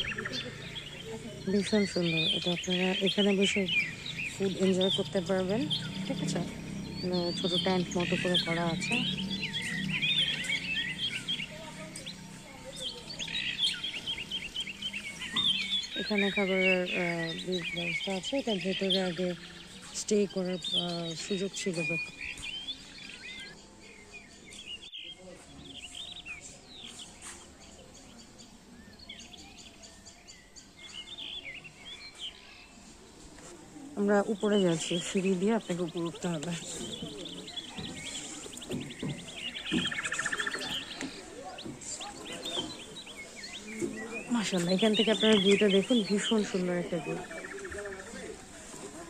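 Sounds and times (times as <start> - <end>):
birds warbling whistles: 0.0 - 32.8, 34.0 - 48.7
faint outdoor background noise: 0.0 - 49.0
small birds chirping: 0.0 - 49.0.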